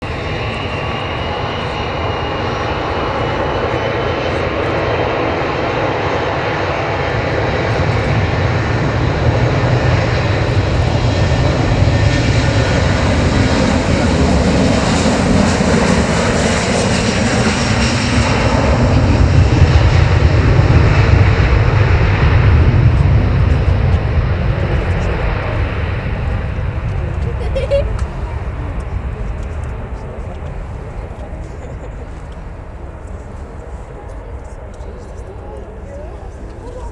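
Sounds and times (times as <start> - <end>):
jet airliner roar: 0.0 - 36.9.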